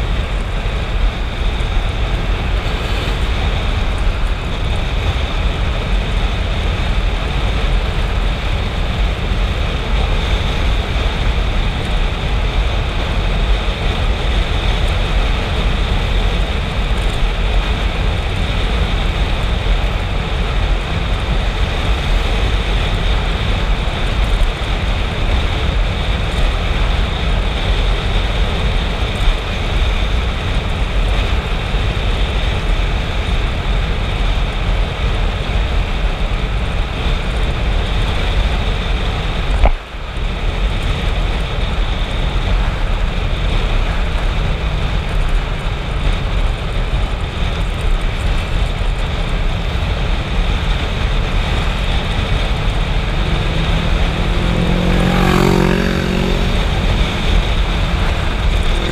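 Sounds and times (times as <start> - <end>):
motorcycle engine and tyre noise: 0.0 - 58.9
wind rushing on microphone: 0.0 - 58.9.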